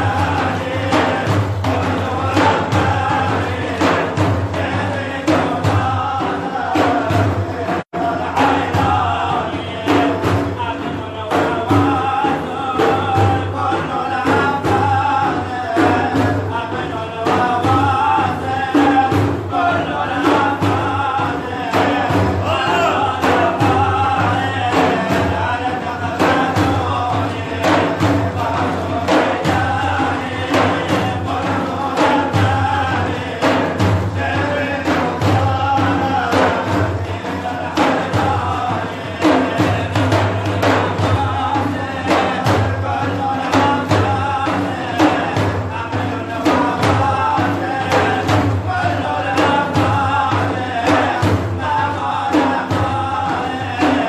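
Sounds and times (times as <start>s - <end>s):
men singing: 0.0s - 54.0s
steady percussion beat: 0.0s - 54.0s.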